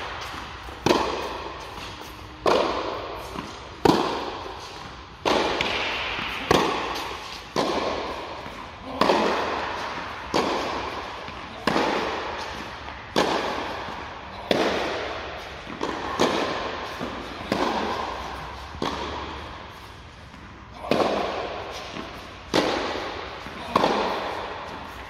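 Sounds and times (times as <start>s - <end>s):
tennis ball hit with racket: 0.0s - 25.0s.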